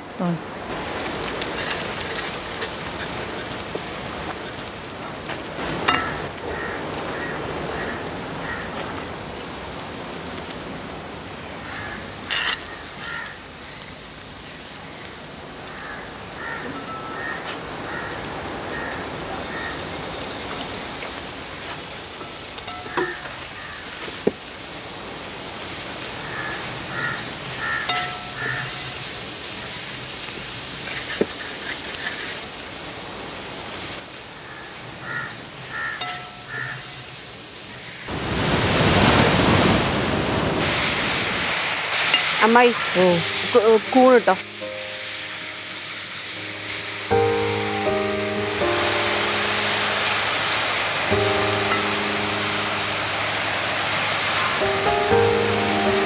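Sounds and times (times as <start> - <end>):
garlic and onion sizzling in oil: 0.5 - 38.1, 40.6 - 56.0.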